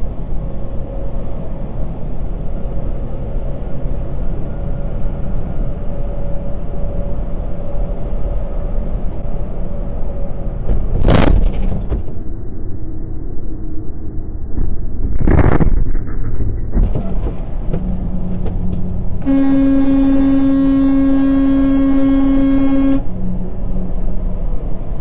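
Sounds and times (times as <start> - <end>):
faint steady whine: 0.0 - 11.0, 12.0 - 25.0
truck engine and road rumble: 0.0 - 25.0.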